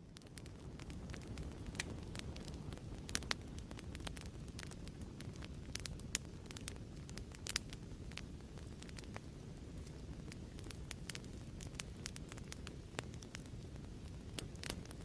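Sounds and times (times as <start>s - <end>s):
fire pops and snaps: 0.0s - 15.0s
wood fire crackling: 0.0s - 15.0s.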